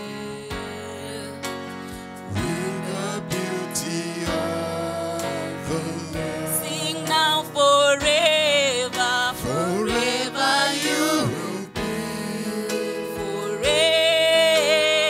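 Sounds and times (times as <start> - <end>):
women singing gospel song: 0.0 - 1.6, 2.3 - 15.0
sustained instrumental backing: 0.0 - 15.0.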